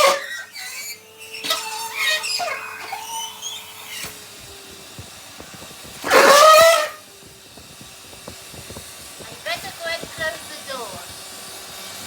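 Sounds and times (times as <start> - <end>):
rubber squealing in vacuum hose: 0.0 - 12.0
vacuum cleaner running: 0.0 - 12.0.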